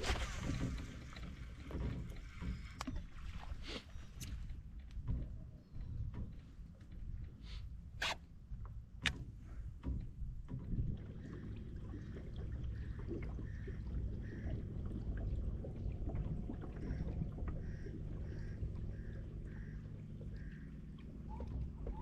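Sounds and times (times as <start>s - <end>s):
low rumble of water and hull: 0.0s - 22.0s.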